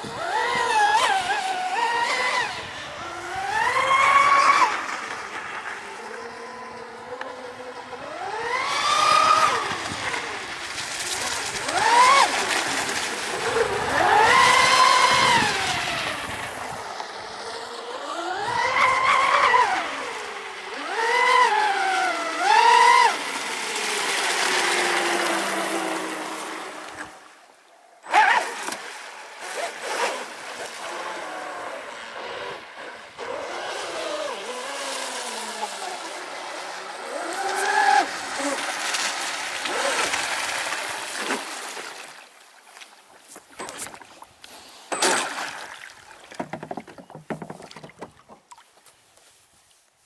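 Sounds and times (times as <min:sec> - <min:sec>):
toy speedboat motor running: 0:00.0 - 0:41.6.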